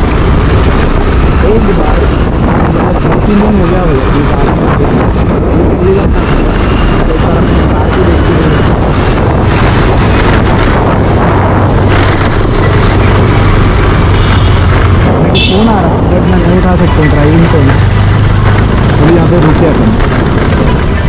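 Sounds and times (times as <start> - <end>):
motorcycle engine drone: 0.0 - 21.0
wind rush on microphone: 0.0 - 21.0.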